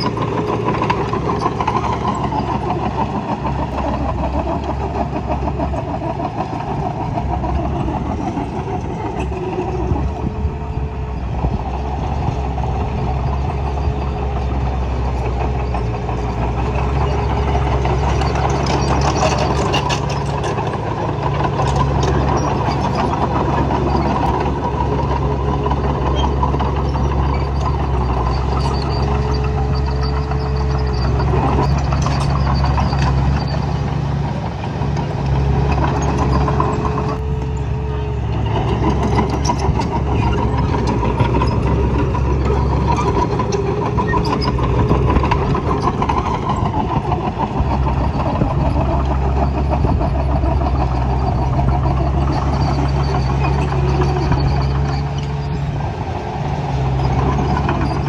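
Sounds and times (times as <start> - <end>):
rattling clatter: 0.0 - 10.5, 14.6 - 55.8
heavy diesel engine running: 0.0 - 58.0.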